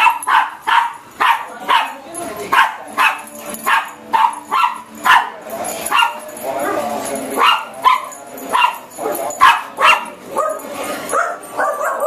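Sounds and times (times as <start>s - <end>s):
dogs barking sharply: 0.0s - 12.0s.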